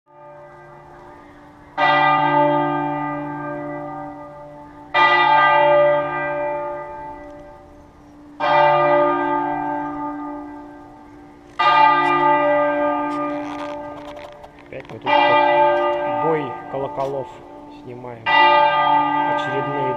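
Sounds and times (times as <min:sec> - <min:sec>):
church bell tolling: 0:00.1 - 0:19.9.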